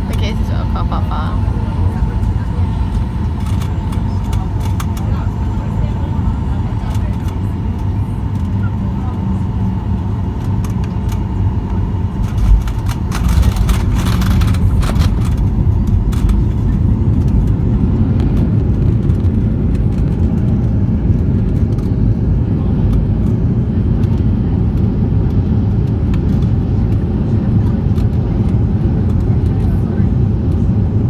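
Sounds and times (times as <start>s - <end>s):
aircraft engine rumble: 0.0s - 31.0s.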